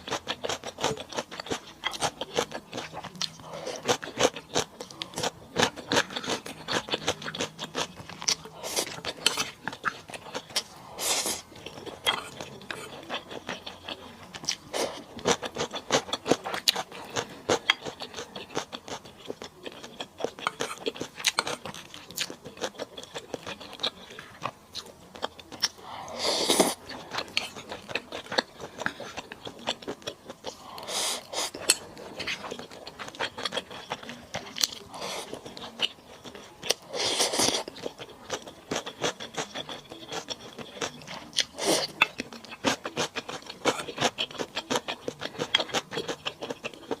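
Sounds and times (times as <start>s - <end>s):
person chewing crunchy food: 0.0s - 47.0s.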